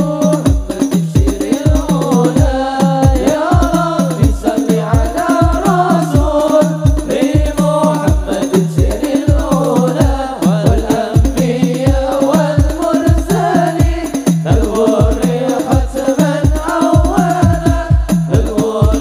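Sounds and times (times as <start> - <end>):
men singing in unison: 0.0 - 19.0.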